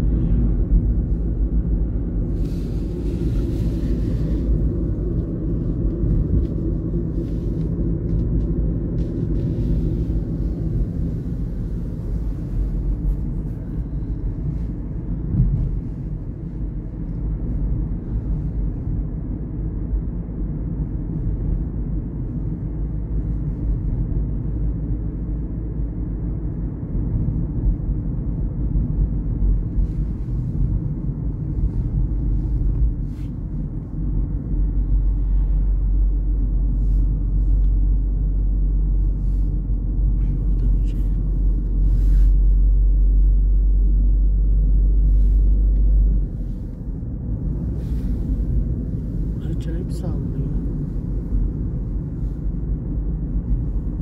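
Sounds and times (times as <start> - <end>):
road and engine rumble in car: 0.0 - 54.0.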